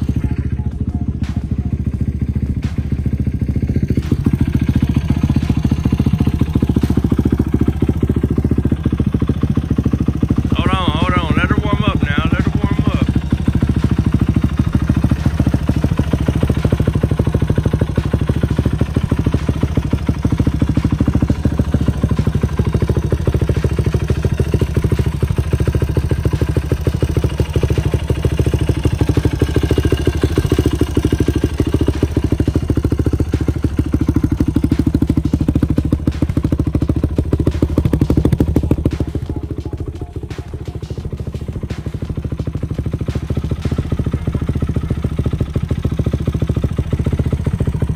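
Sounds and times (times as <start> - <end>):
quad engine idling: 0.0 - 47.9.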